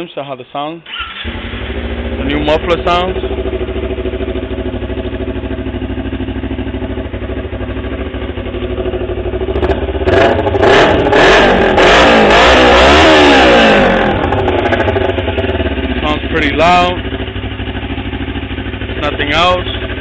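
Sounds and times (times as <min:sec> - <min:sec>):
motorcycle engine idling and revving: 0:00.9 - 0:20.0.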